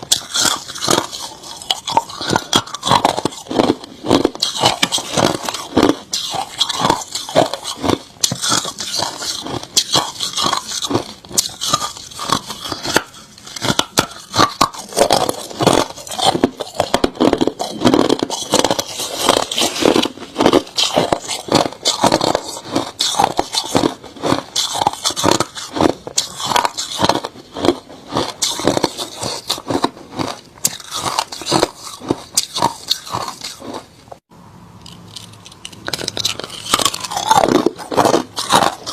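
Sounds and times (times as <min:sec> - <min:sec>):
chewing crunchy ice: 0:00.0 - 0:34.2, 0:34.8 - 0:38.9.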